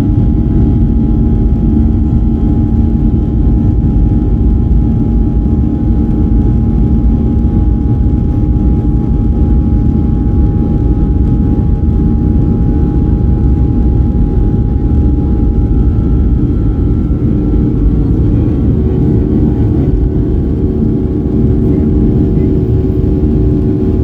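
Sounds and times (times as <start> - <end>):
jet engine cabin rumble: 0.0 - 24.0.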